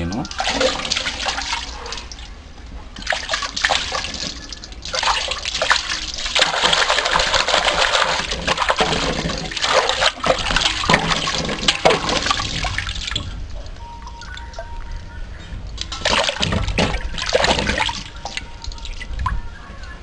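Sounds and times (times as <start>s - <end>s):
water pouring and splashing: 0.0s - 15.0s, 15.6s - 19.4s.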